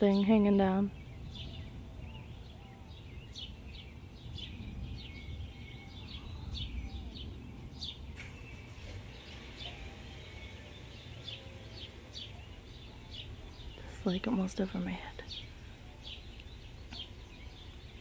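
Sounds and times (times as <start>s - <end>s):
low rumbling noise: 0.0s - 18.0s
small birds chirping: 0.0s - 18.0s.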